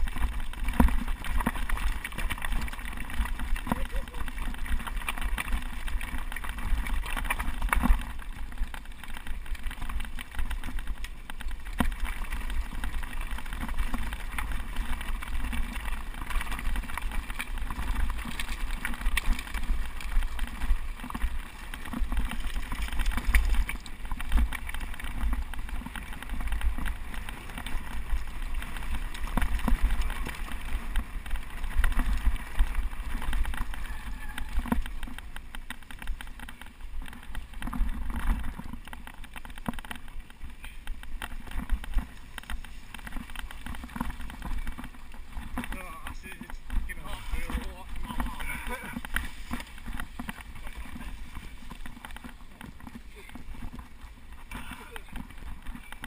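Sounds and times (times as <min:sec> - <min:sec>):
bike rattling: 0:00.0 - 0:56.0
bike tyres crunching over stones: 0:00.0 - 0:56.0
wind rumble on microphone: 0:00.0 - 0:56.0.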